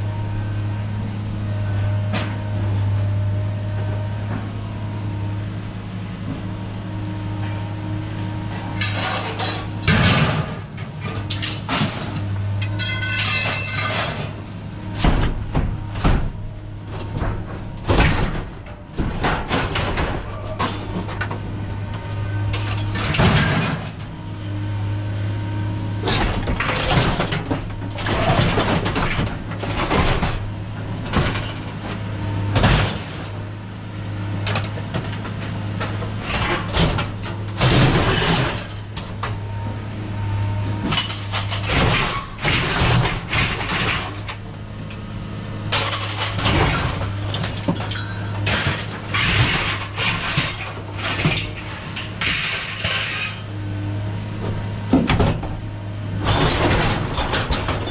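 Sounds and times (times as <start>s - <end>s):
scrap metal clanking and crashing: 8.4s - 24.6s, 25.9s - 39.7s, 40.3s - 57.9s.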